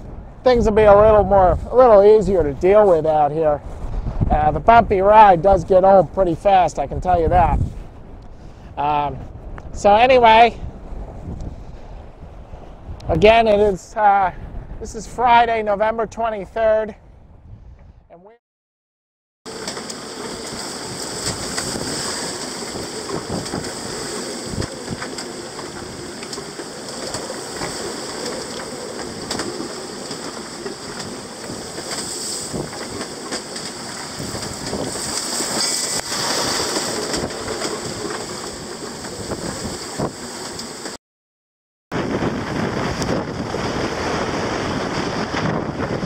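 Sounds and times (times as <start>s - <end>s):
gale-force wind and rain: 0.0s - 17.8s, 19.5s - 41.0s, 41.9s - 46.0s.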